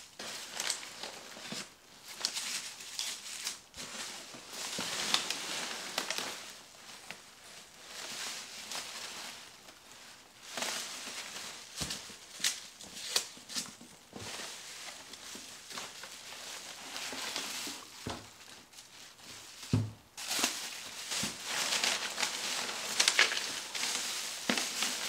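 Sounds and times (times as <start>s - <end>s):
packing material crinkling: 0.0s - 25.0s.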